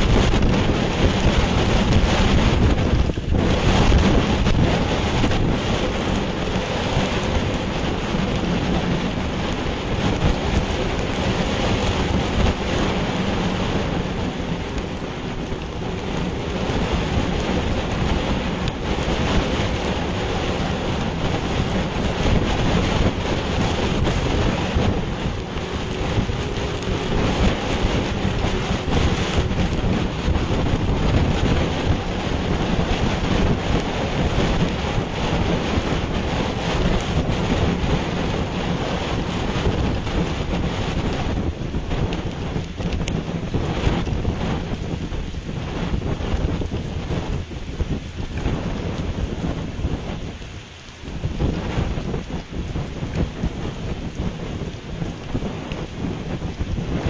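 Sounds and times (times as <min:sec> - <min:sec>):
wind and rain on microphone: 0:00.0 - 0:57.0.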